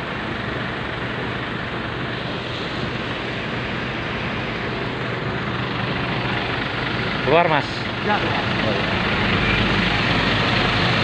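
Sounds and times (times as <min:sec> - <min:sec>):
diesel vehicles rumbling: 0:00.0 - 0:11.0
low hum: 0:00.0 - 0:11.0.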